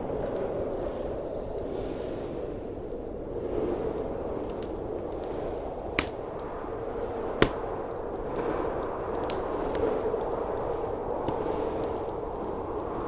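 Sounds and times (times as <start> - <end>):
blizzard wind rushing: 0.0 - 13.0
fire popping: 0.0 - 13.0
wood fire crackling: 0.0 - 13.0.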